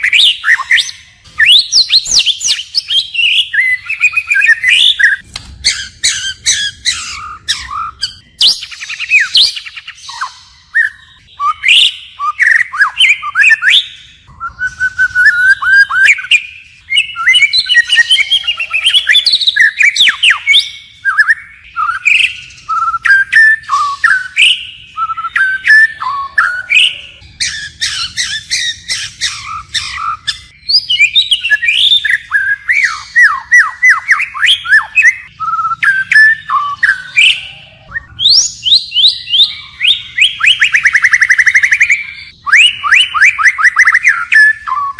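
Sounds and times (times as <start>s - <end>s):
bird singing whistled phrases: 0.0s - 44.9s.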